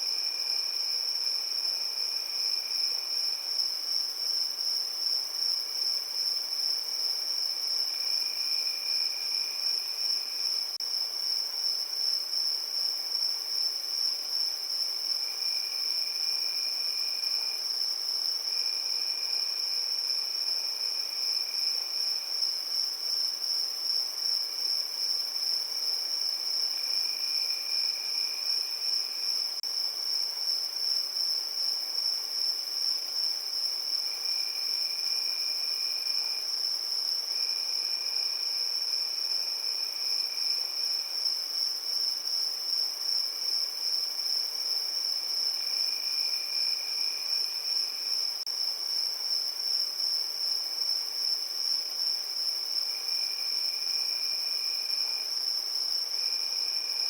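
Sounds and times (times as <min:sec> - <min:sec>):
lower cricket trill: 0:00.0 - 0:57.0.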